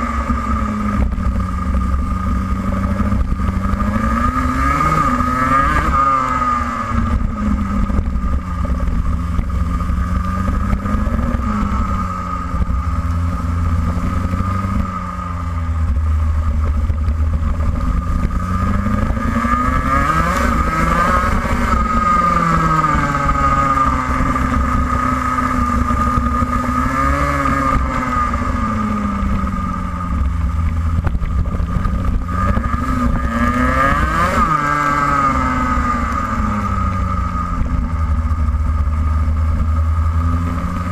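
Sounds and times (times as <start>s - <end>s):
kart engine revving: 0.0s - 40.9s
low rumble: 0.0s - 40.9s.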